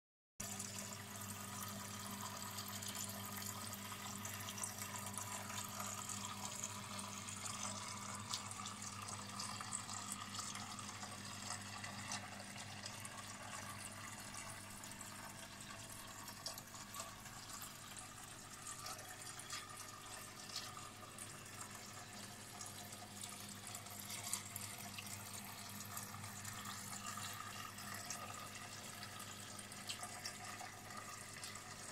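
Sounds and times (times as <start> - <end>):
fountain trickling: 0.4 - 31.9
water dripping: 0.4 - 31.9.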